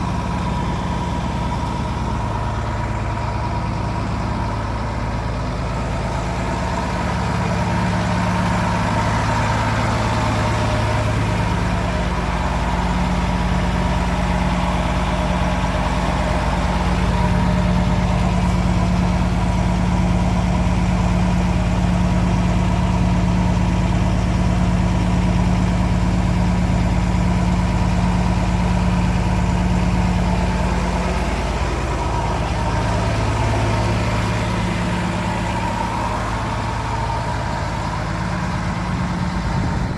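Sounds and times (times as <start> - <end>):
paver diesel engine running: 0.0 - 39.9.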